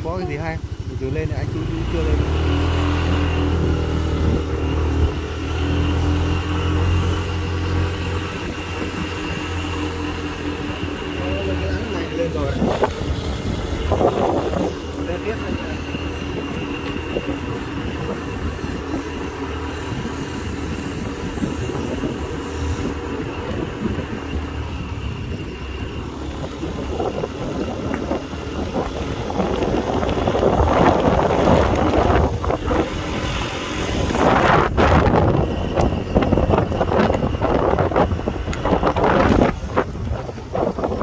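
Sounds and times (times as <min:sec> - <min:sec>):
motorbike engine running: 0:00.0 - 0:41.0
wind noise on microphone: 0:00.0 - 0:41.0.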